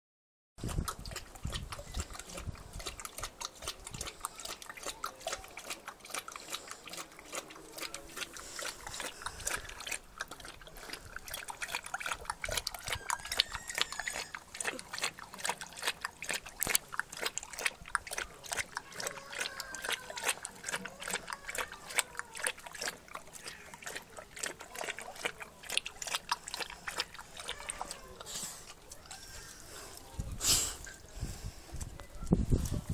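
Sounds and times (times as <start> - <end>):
dog lapping water: 0.6 - 31.5.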